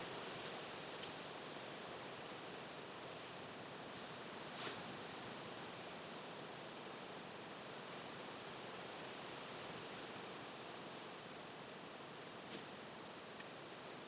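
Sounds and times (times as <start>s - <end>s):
rustling outdoor background noise: 0.0s - 14.0s.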